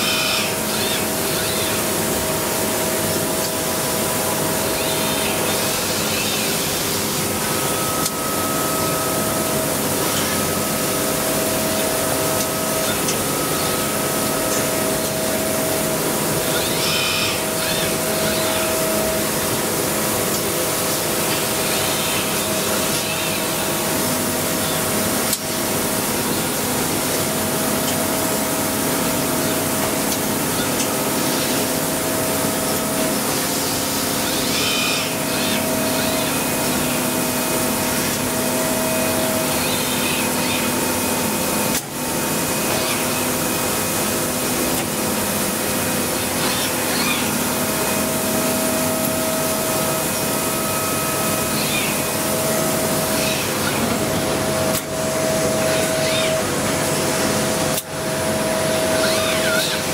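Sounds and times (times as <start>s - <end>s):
machine hiss and hum: 0.0s - 59.9s.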